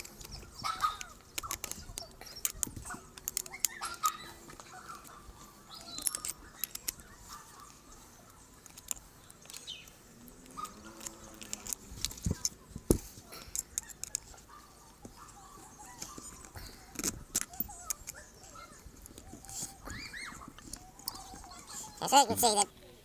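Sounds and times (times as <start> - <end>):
metal clicks and clinks: 0.0 - 22.0.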